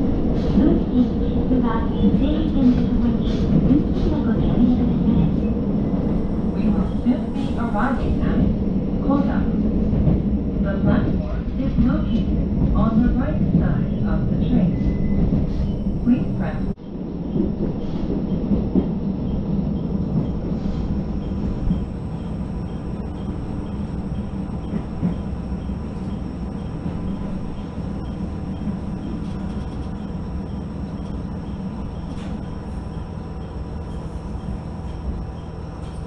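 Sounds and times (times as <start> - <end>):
railcar engine and wheels rumbling: 0.0 - 36.0.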